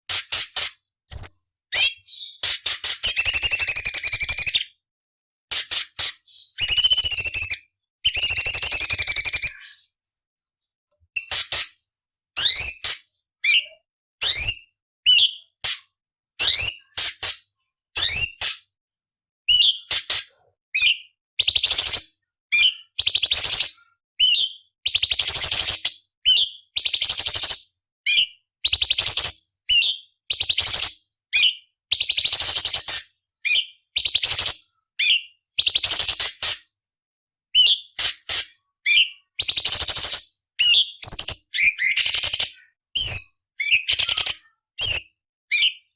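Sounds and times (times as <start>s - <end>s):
bird singing whistles and chatters: 0.1s - 4.8s, 5.6s - 10.0s, 12.4s - 15.7s, 16.4s - 17.3s, 18.0s - 18.6s, 19.5s - 36.6s, 37.5s - 45.9s.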